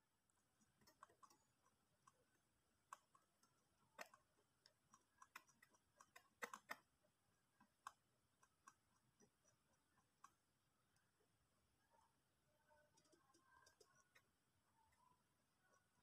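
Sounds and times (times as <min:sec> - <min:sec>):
mouse scroll wheel clicking: 0:00.4 - 0:06.9, 0:07.6 - 0:11.2, 0:12.8 - 0:16.0.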